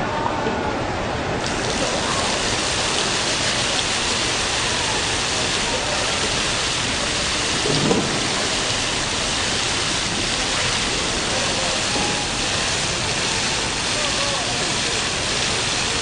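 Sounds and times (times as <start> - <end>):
fountain water splashing: 1.4 - 16.0.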